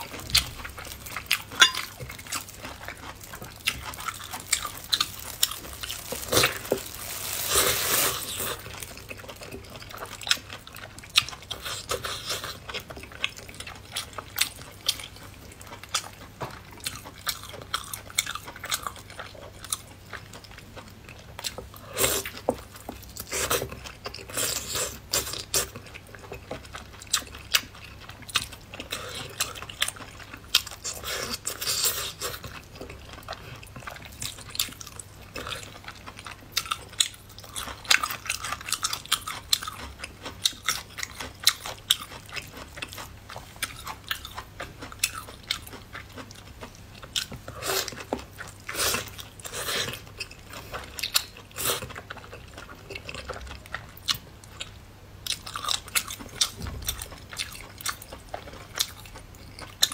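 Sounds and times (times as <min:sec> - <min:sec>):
mouth chewing and biting: 0:00.0 - 0:20.6, 0:21.4 - 0:54.7.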